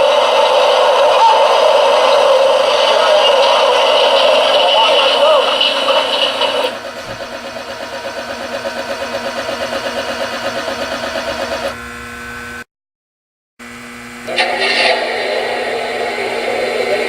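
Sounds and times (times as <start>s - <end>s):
electric mechanism humming and pulsing: 0.0s - 12.7s, 13.6s - 17.0s.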